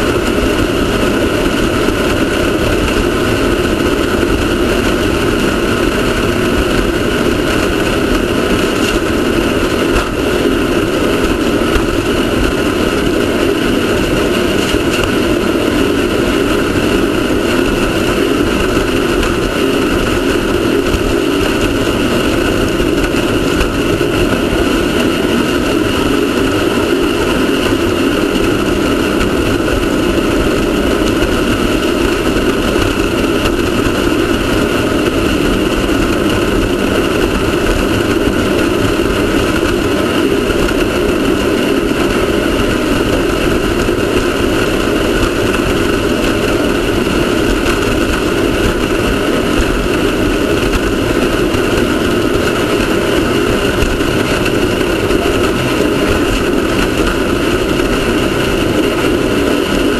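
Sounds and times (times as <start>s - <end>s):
continuous rushing noise: 0.0s - 59.9s
race car engine running: 0.0s - 59.9s.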